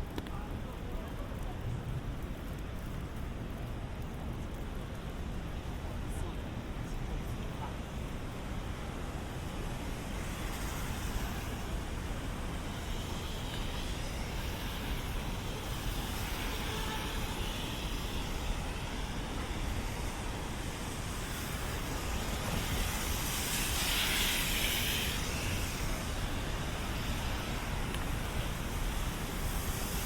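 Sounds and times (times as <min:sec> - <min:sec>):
traffic hiss on wet streets: 0:00.0 - 0:30.0.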